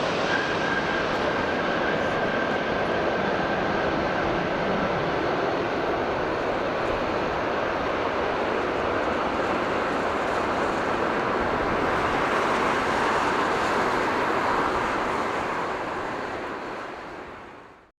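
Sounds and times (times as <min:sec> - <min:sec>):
jet engines rushing: 0:00.0 - 0:17.8.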